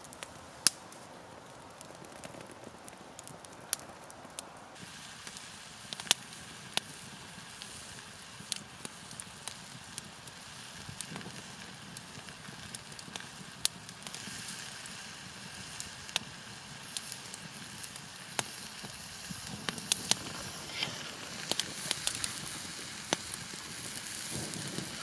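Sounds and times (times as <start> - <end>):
campfire crackling and popping: 0.0 - 25.0
food frying hiss: 0.0 - 25.0.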